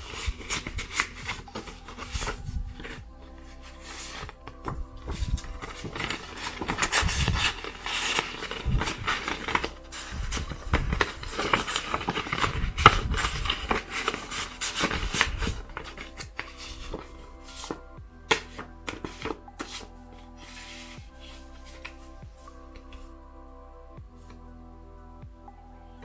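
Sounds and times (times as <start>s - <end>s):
paper envelopes rustling: 0.0s - 22.0s
background music: 0.0s - 26.0s.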